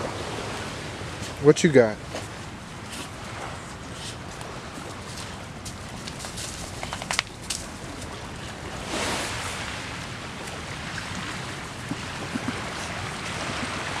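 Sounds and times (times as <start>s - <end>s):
surf washing on beach: 0.0s - 14.0s
wind: 0.0s - 14.0s.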